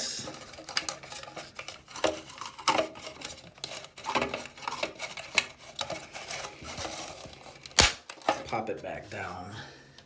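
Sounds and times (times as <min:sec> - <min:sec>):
plastic parts clicking and knocking: 0:00.3 - 0:08.5.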